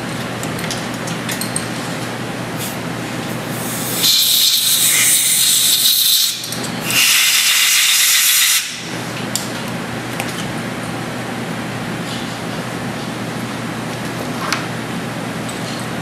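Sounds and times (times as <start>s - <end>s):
steady shop hum: 0.0s - 16.0s.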